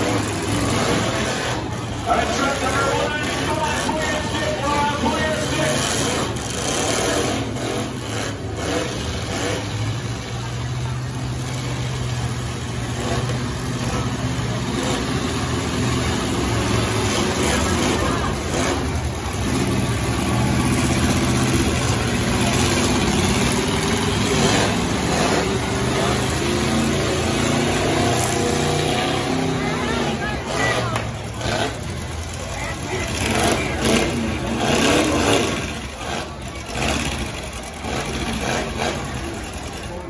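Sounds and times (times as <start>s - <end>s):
truck engines running and revving: 0.0s - 40.0s.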